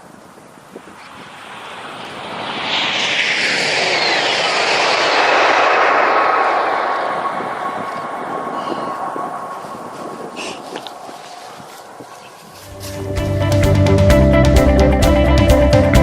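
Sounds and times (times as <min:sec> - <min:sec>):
high-speed train passing: 0:00.4 - 0:13.3.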